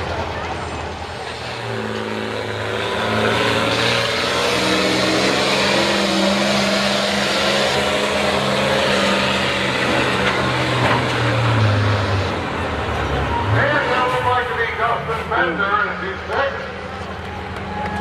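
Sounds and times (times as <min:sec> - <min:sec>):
truck engine revving high: 0:00.0 - 0:18.0.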